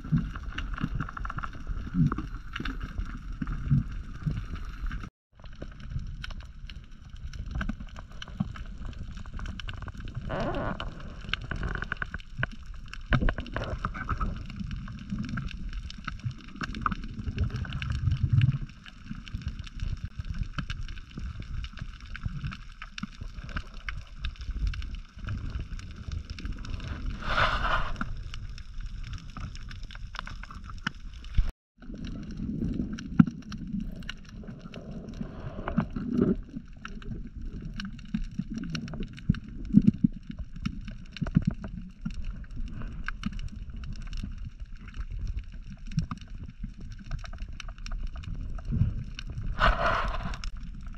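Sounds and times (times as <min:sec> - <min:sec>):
underwater rumbling and sloshing: 0:00.0 - 0:50.9.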